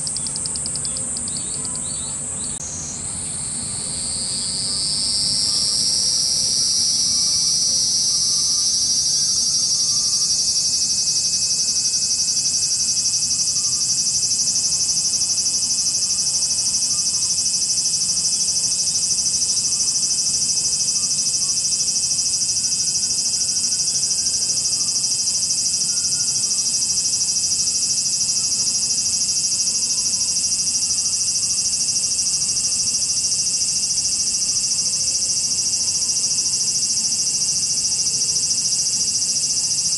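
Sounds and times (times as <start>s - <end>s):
cicadas buzzing loudly: 0.0s - 39.9s.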